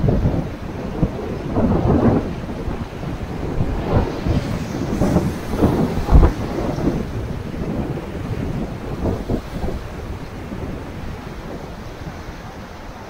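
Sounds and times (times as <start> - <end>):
rushing river water: 0.0 - 13.0
wind buffeting microphone: 0.0 - 13.0.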